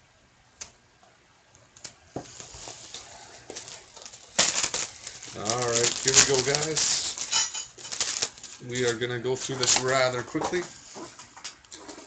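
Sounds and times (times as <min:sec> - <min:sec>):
packaging crinkling and rustling: 0:01.7 - 0:12.0.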